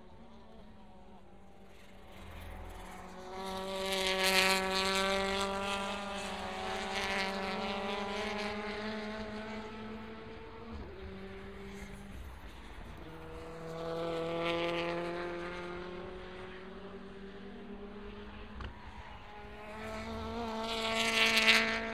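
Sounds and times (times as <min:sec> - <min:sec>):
car engine approaching: 0:00.0 - 0:21.9
racing car engines passing: 0:00.1 - 0:21.9.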